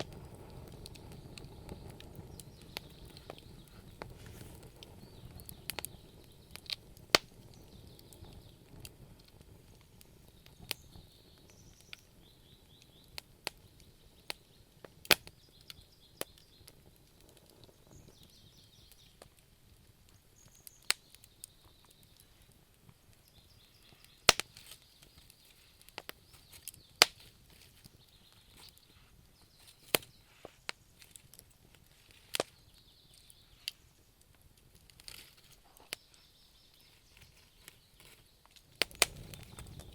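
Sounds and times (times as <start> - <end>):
low steady hiss: 0.0 - 39.9
sharp pops and snaps: 0.0 - 39.9
wood fire crackling: 0.0 - 39.9.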